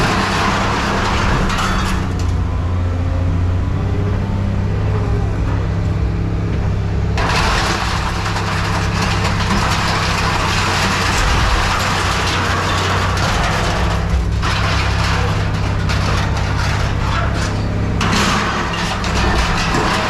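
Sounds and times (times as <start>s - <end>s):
heavy machinery engine hum: 0.0s - 20.0s.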